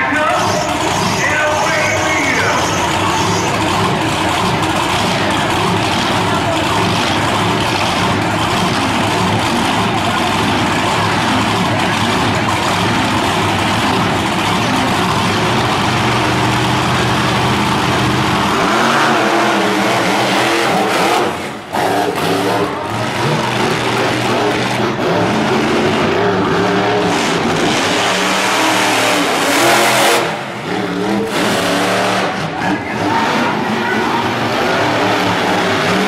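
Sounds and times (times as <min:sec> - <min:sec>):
monster truck engines revving: 0:00.0 - 0:36.0.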